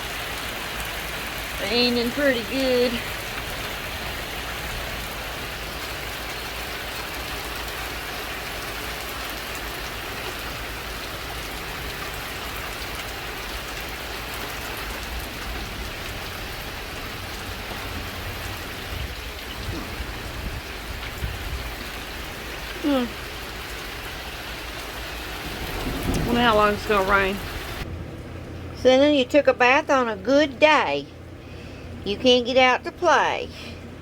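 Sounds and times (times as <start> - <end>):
rain falling steadily: 0.0 - 34.0.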